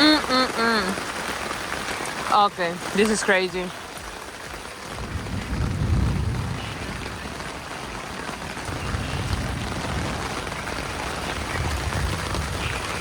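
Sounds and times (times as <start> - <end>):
heavy rain drumming on a tent: 0.0 - 13.0.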